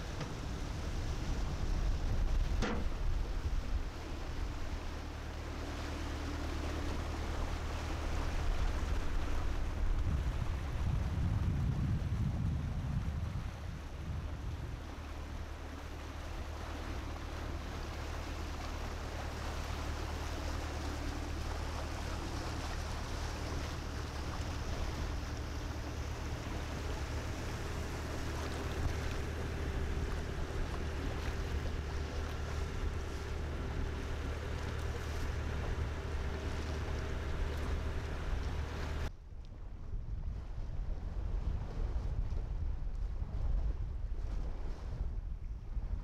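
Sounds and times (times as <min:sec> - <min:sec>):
water rushing past hull: 0:00.0 - 0:39.1
boat engine drone: 0:00.0 - 0:39.2.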